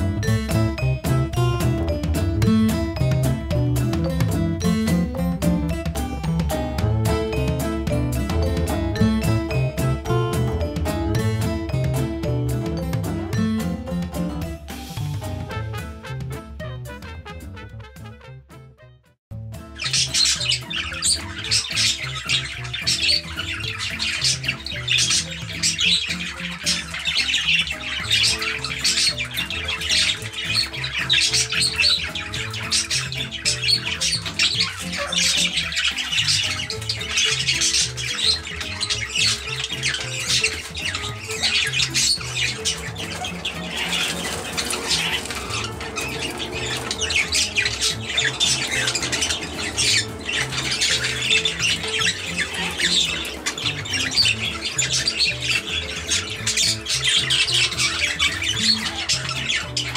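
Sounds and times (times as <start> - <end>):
parrots squawking and chattering: 0.0 - 15.8, 19.7 - 59.9
background music with bass line: 0.0 - 59.9.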